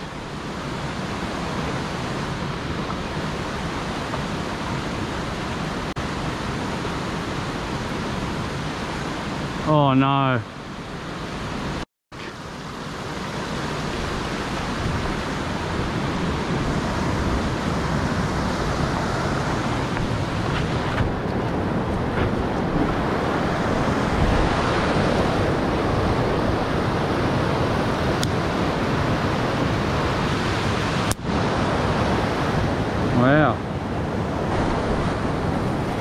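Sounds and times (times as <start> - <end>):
river rapids rushing: 0.0 - 36.0.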